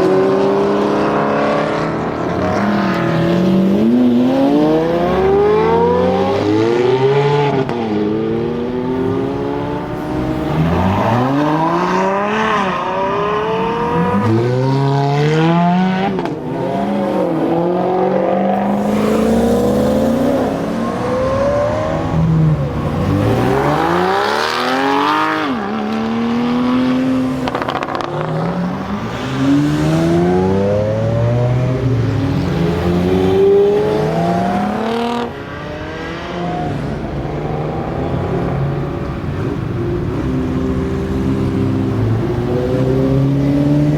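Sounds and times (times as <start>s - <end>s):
car engines accelerating hard: 0.0s - 43.9s.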